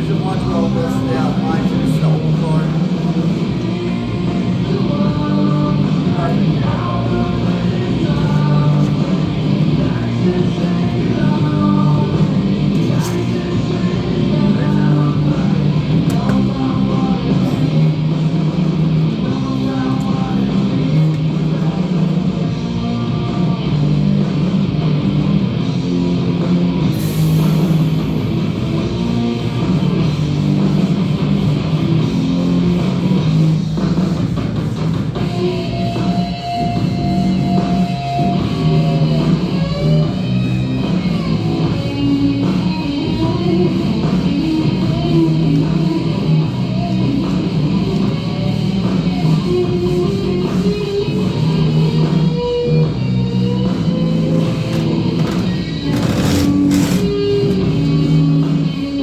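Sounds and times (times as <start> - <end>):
rock music with electric guitar: 0.0 - 59.0.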